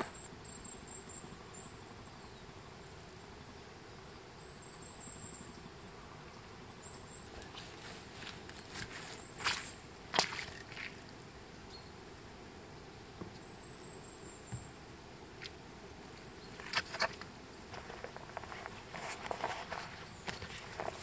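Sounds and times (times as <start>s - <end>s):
insects buzzing faintly: 0.0s - 21.0s.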